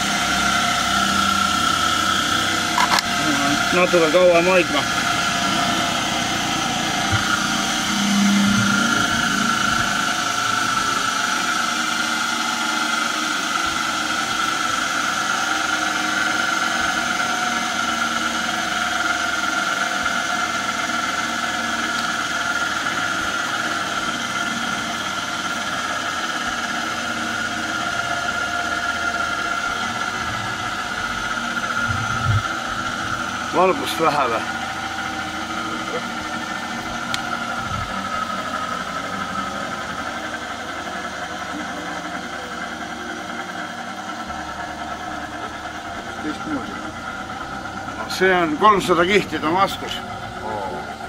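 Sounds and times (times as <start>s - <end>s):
forge humming with whine and hiss: 0.0s - 51.0s.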